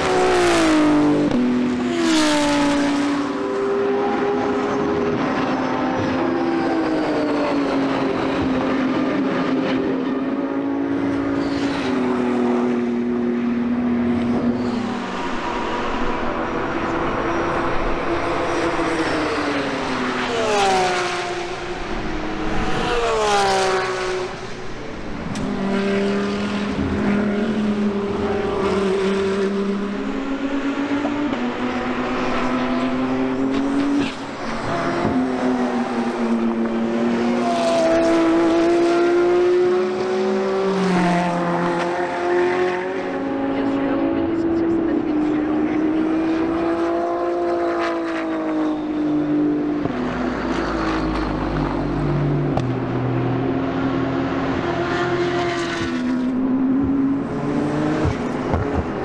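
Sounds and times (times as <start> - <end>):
race car engines: 0.0 - 59.0
race cars passing close: 0.0 - 59.0.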